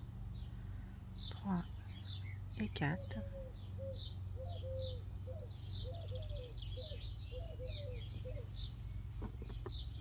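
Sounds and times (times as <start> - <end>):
birds chirping: 0.0 - 10.0
steady low hum: 0.0 - 10.0.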